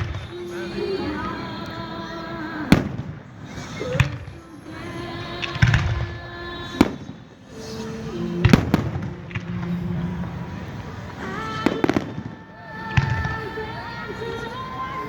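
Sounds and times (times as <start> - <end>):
fireworks bangs: 0.0 - 1.6, 2.5 - 14.5
music playing: 0.0 - 15.0.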